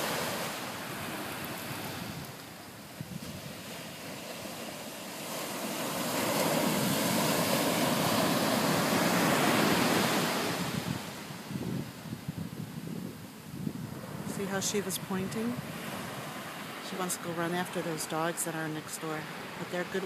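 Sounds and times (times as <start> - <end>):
wind buffeting microphone: 0.0 - 18.0
ocean surf breaking: 0.0 - 20.0.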